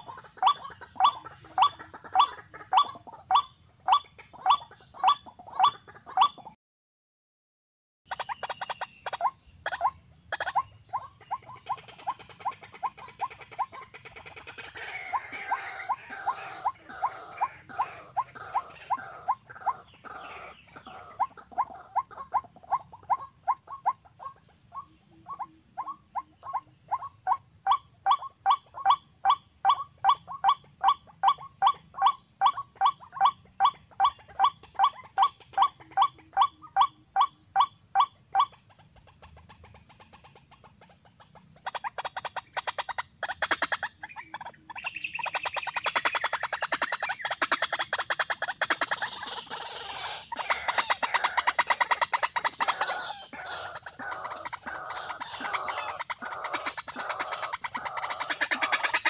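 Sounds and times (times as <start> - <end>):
rail bird calling: 0.0 - 6.5, 8.1 - 38.6, 41.3 - 59.0.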